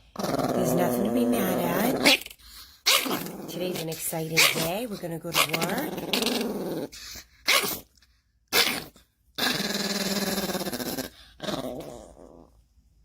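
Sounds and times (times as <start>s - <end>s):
dog growling: 0.0s - 7.9s, 8.6s - 12.6s.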